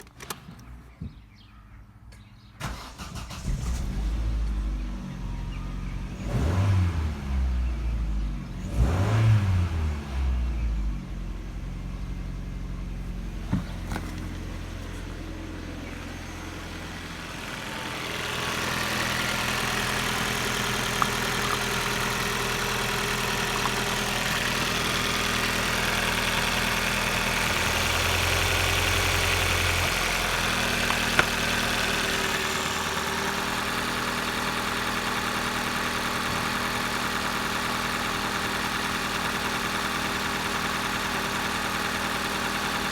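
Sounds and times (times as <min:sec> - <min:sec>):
car engine starting and idling: 0:02.4 - 0:42.9
engine revving: 0:02.6 - 0:11.1, 0:13.4 - 0:42.9.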